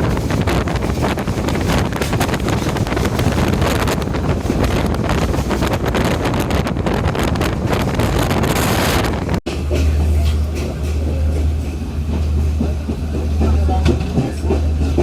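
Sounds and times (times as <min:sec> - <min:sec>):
moving train rushing: 0:00.0 - 0:15.0
wind buffeting microphone: 0:00.0 - 0:15.0.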